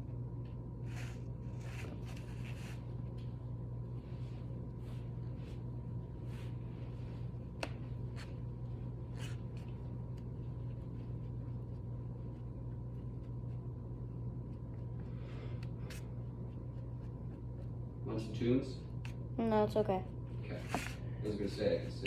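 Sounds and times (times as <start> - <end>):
low hum: 0.0 - 21.2.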